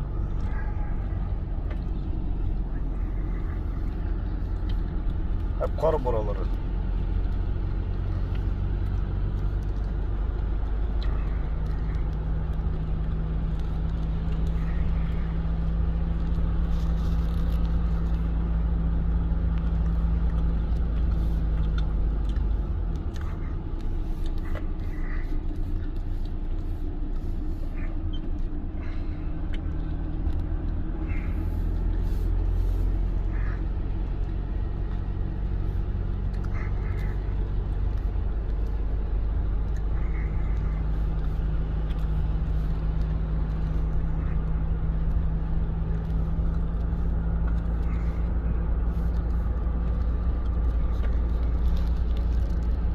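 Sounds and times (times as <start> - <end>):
car engine and tyre drone: 0.0 - 52.9.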